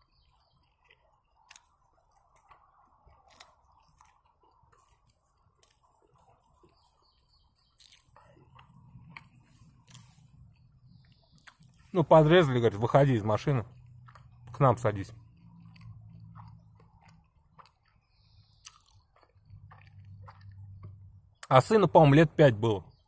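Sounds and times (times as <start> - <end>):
quiet chewing: 0.0 - 22.2.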